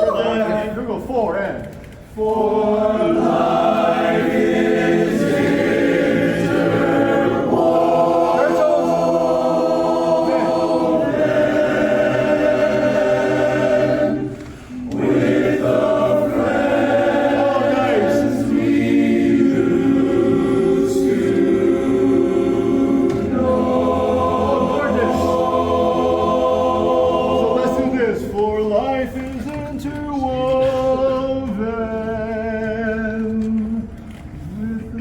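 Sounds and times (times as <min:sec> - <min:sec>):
a cappella chorus singing: 0:02.1 - 0:35.0.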